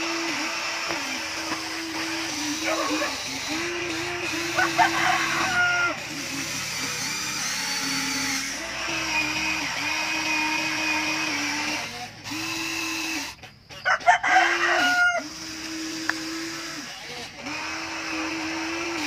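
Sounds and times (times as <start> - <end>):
toy electric motors whining: 0.0 - 19.0.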